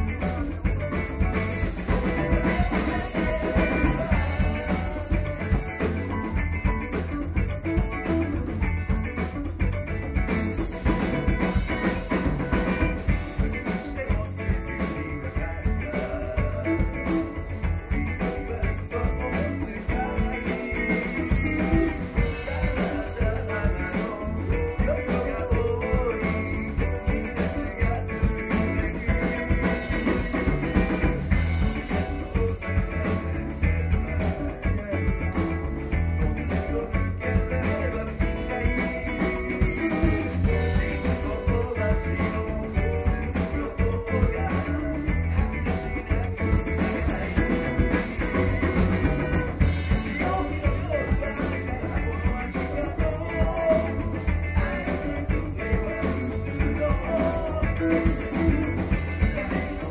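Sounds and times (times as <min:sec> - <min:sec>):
live rock song: 0:00.0 - 0:59.9.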